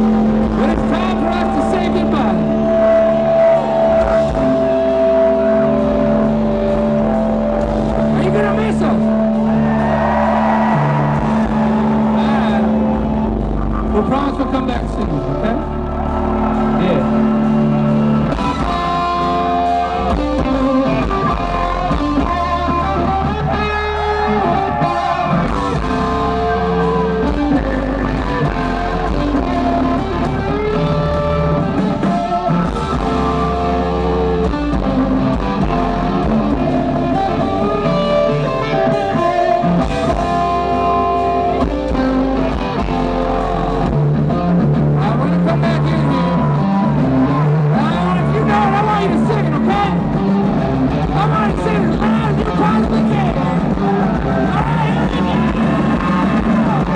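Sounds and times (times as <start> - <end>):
electric guitar: 0.0 - 56.9
live rock band playing: 0.0 - 56.9.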